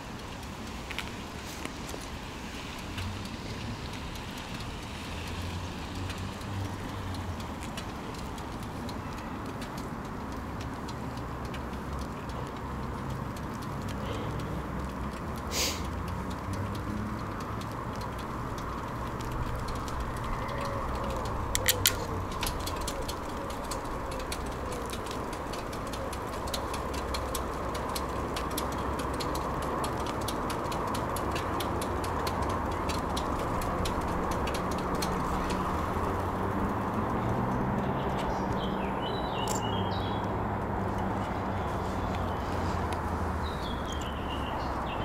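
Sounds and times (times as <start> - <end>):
light clicks and rattles: 0.0 - 38.7
bicycle tyre and wind rush: 0.0 - 45.0.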